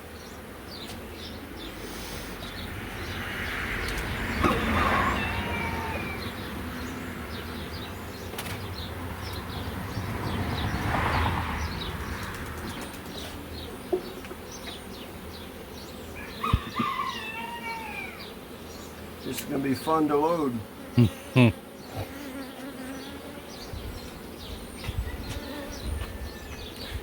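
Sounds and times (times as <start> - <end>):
honeybees humming: 0.0 - 27.0
birds chirping and calling: 0.2 - 27.0.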